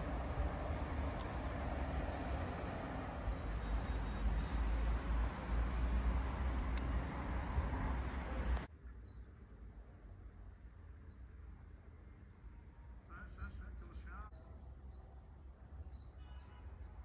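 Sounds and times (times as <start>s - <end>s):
town traffic rumble: 0.0s - 17.0s.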